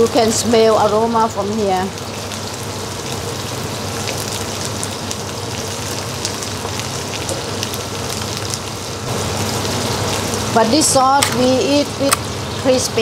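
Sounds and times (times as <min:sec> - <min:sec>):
aromatics sizzling in oil: 0:00.0 - 0:13.0.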